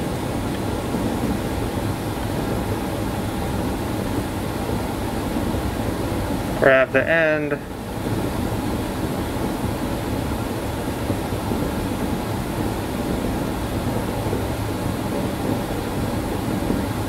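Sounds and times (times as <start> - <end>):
rushing hum: 0.0 - 17.0.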